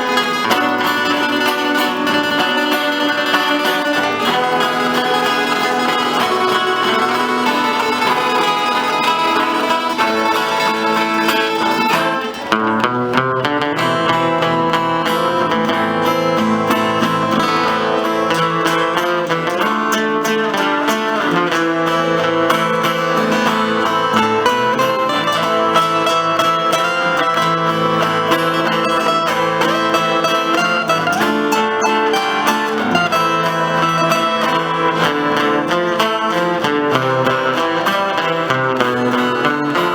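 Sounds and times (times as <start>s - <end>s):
instrumental guitar music: 0.0s - 39.9s.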